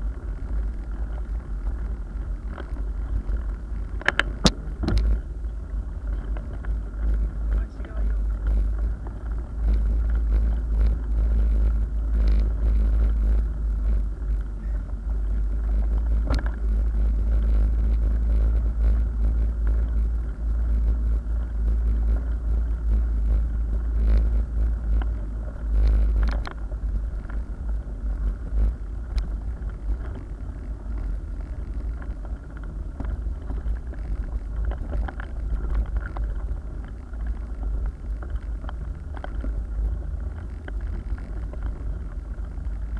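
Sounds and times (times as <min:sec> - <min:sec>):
bike clicks and rattles: 0:00.0 - 0:42.9
bike tyres on pavement: 0:00.0 - 0:42.9
wind rumble on microphone: 0:00.0 - 0:42.9.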